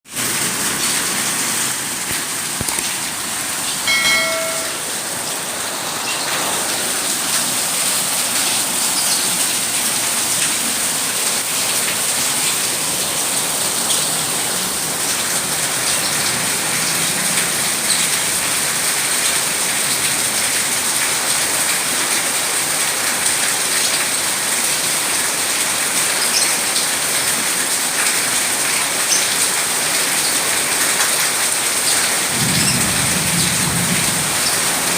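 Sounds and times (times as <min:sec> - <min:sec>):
rain pattering: 0:00.1 - 0:34.9.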